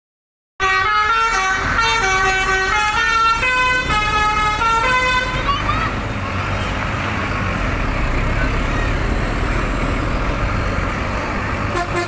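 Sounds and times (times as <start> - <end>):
bus engine rumble: 0.6 - 12.0
road noise: 0.6 - 12.0.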